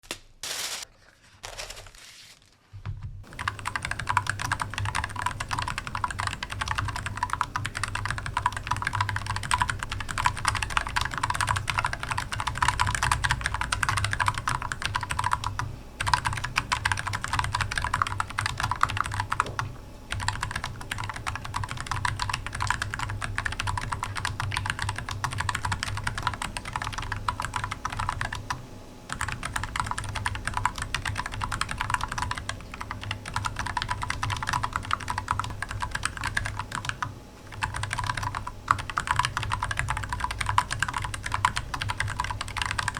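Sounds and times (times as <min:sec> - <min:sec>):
fast typing on keyboard: 0:03.2 - 0:42.9.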